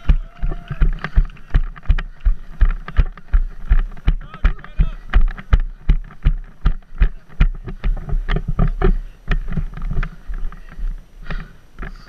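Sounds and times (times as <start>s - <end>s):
footfalls on artificial turf: 0.0s - 11.5s.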